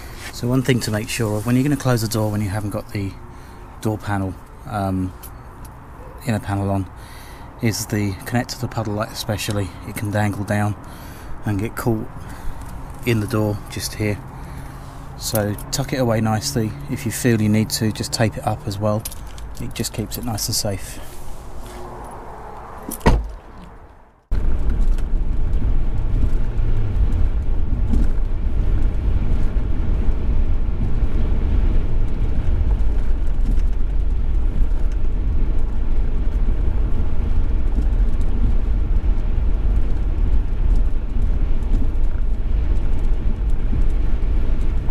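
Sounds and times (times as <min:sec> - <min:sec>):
car driving interior rumble: 0:00.0 - 0:06.7, 0:07.7 - 0:44.9.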